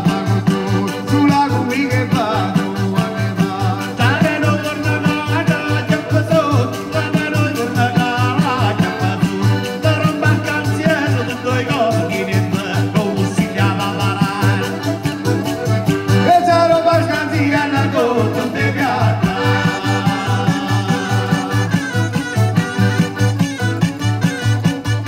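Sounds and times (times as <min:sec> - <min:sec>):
accordion: 0:00.0 - 0:25.0
acoustic guitar: 0:00.0 - 0:25.0
jingled frame drum beat: 0:00.0 - 0:25.0.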